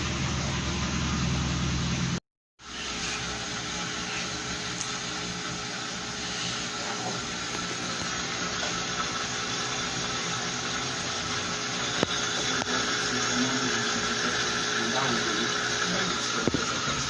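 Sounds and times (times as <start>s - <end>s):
washing machine whirring: 0.0s - 17.0s.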